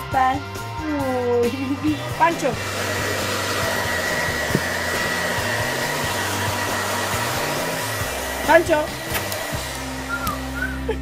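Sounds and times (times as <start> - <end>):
hair dryer running: 1.2 - 11.0.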